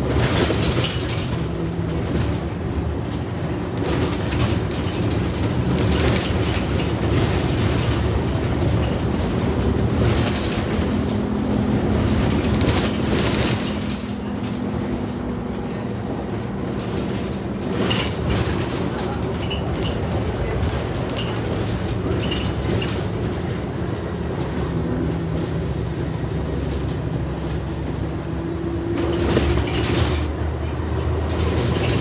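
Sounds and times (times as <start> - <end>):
bus body rattle: 0.0 - 32.0
bus engine drone: 0.0 - 32.0
road noise: 0.0 - 32.0.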